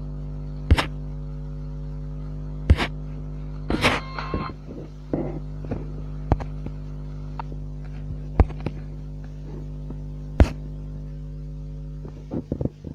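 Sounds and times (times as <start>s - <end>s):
small electric motor humming: 0.0s - 12.9s.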